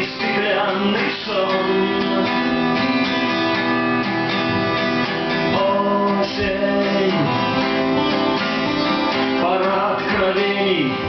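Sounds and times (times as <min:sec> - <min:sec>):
man singing: 0:00.0 - 0:03.3, 0:05.2 - 0:11.0
acoustic guitars strumming: 0:00.0 - 0:11.0.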